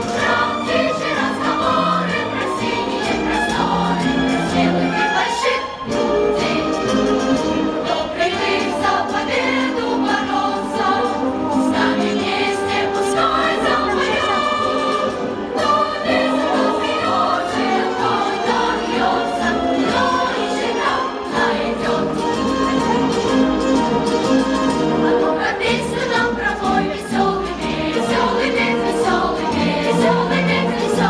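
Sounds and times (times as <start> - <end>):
choral singing: 0.0 - 31.0
instrumental accompaniment: 0.0 - 31.0.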